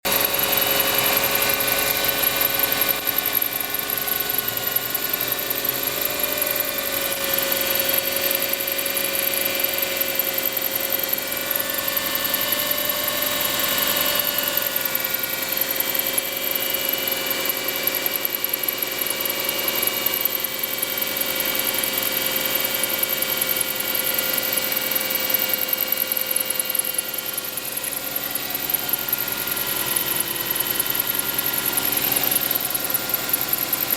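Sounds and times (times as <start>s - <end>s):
engine idling: 0.0s - 33.9s
steady whistle: 0.1s - 33.9s.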